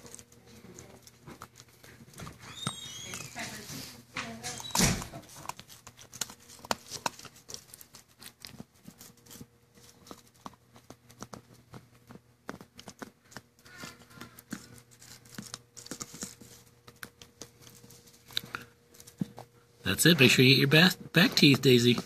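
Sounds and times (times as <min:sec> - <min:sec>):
puppy chewing plastic: 0:00.0 - 0:22.0.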